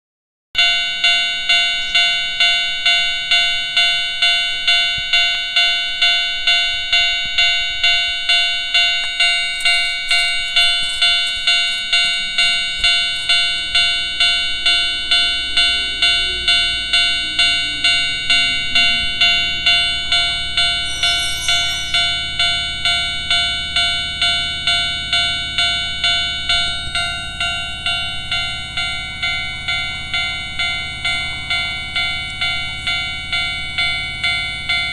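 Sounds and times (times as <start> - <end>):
level crossing alarm bell ringing: 0.6 - 34.9
train low rumble: 0.6 - 34.9.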